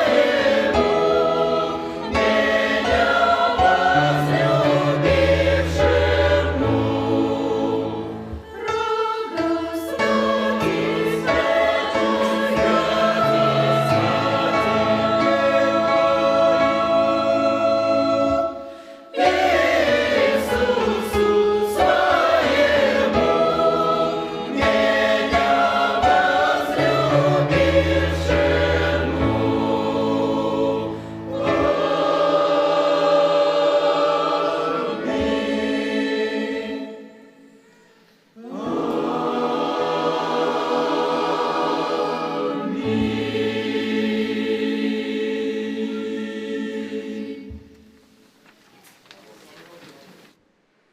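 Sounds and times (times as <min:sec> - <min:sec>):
church choir singing a hymn: 0:00.0 - 0:48.2.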